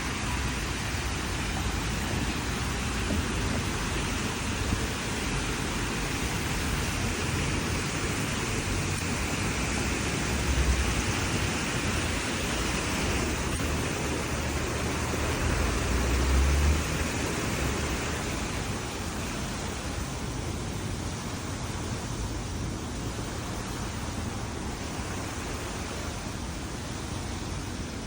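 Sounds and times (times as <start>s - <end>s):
distant traffic hiss: 0.0s - 28.0s.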